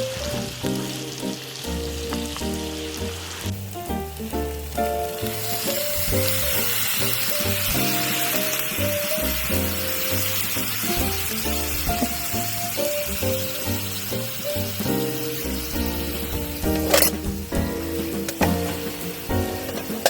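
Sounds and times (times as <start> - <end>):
background music: 0.0 - 20.0
food sizzling: 0.0 - 20.0.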